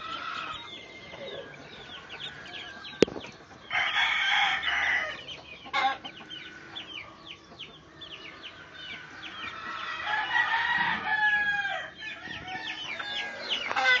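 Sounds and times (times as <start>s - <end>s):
young chickens peeping: 0.0s - 14.0s.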